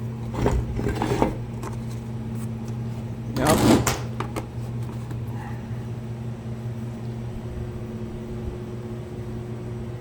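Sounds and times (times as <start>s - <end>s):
shop vac running: 0.0s - 10.0s.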